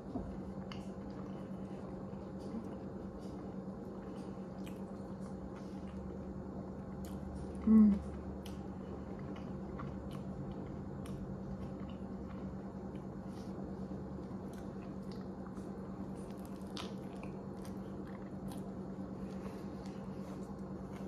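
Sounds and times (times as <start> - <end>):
steady low hum: 0.0 - 21.0
wet chewing mouth sounds: 0.4 - 21.0.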